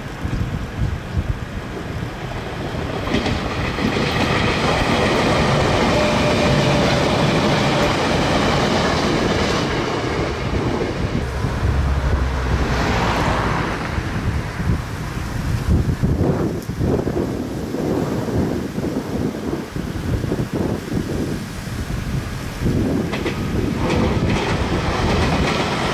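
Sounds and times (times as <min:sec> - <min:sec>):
electric train running past: 0:00.1 - 0:19.9, 0:22.2 - 0:25.9.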